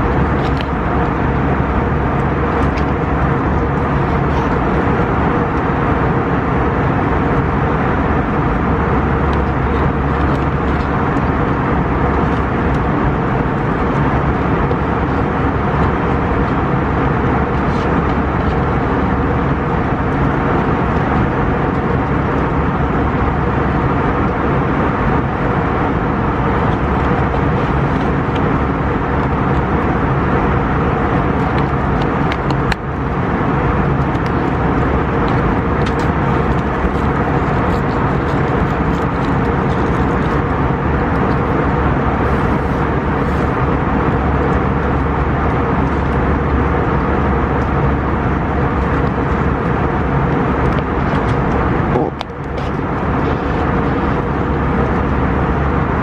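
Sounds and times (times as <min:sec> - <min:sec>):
loud rumbling noise: 0:00.0 - 0:56.0.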